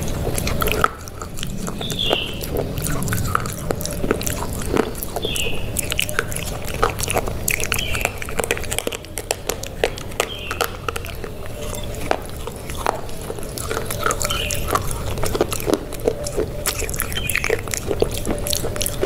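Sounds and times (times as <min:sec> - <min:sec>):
chocolate biting and chewing: 0:00.0 - 0:19.0.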